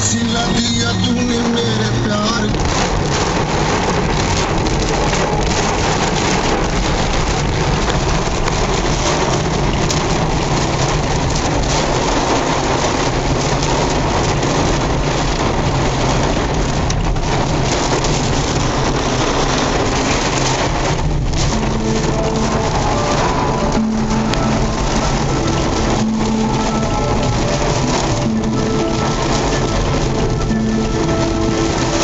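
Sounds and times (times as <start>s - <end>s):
heavy rain on hard surfaces: 0.0s - 32.0s.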